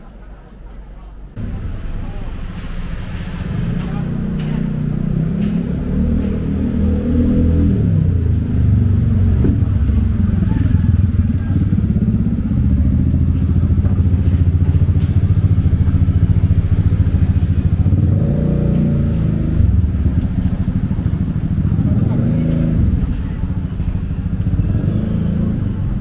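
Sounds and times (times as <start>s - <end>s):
faint voices: 0.0s - 6.2s, 7.8s - 26.0s
vehicle engine running: 1.4s - 26.0s.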